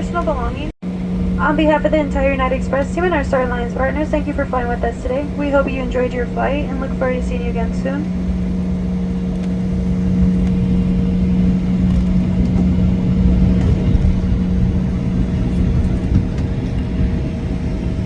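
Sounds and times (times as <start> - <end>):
jet engines droning: 0.0 - 18.0
low rumble of wheels: 0.0 - 18.0.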